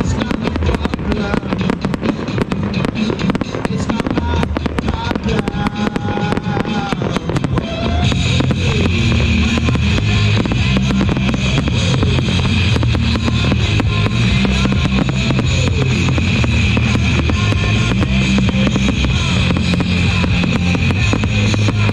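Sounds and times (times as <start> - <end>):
fireworks bangs and crackling: 0.0 - 21.9.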